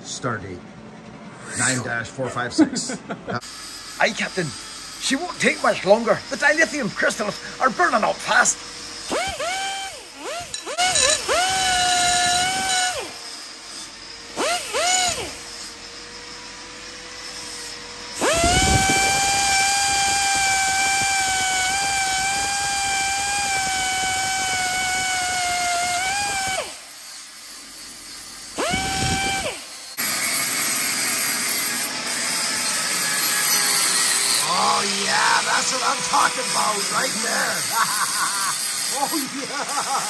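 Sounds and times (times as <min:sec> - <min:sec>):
die grinder whining: 0:03.3 - 0:40.0
angle grinder grinding metal: 0:03.4 - 0:40.0.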